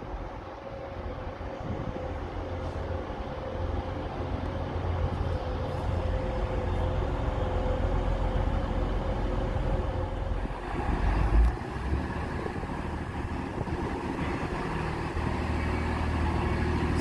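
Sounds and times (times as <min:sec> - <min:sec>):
train approaching: 0:00.0 - 0:17.0.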